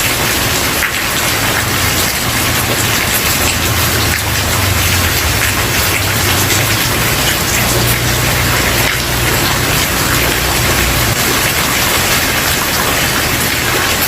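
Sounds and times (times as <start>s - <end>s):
rain on wooden porch: 0.0s - 14.0s.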